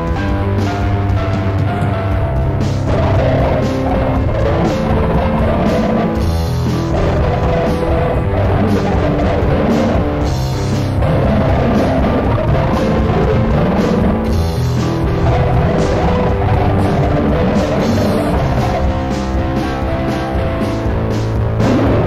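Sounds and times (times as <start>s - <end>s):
drum kit beating: 0.0s - 22.0s
held chord-like notes: 0.0s - 22.0s.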